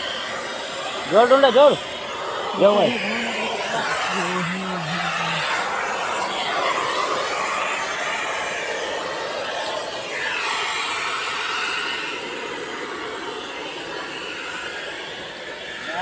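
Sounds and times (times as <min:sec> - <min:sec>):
pressurised gas hissing from hose: 0:00.0 - 0:16.0.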